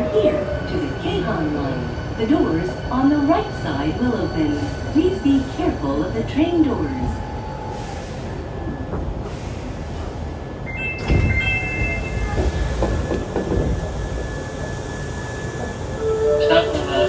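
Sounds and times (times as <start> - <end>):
electric train running rumble: 0.0 - 17.0.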